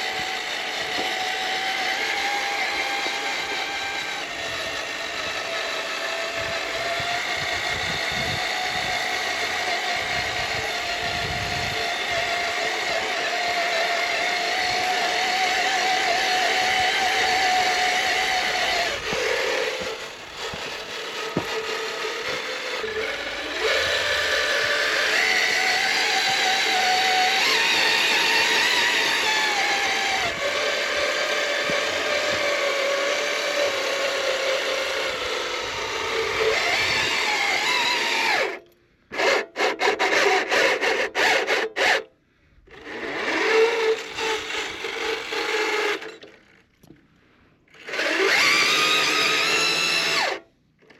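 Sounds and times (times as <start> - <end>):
small electric motor whining: 0.0 - 47.0, 47.7 - 50.9.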